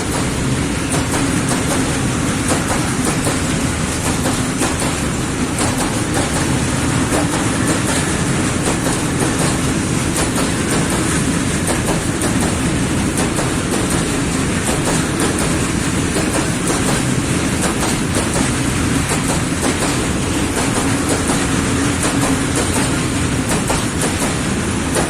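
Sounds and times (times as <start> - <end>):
train wheels clacking over rail joints: 0.0 - 25.0.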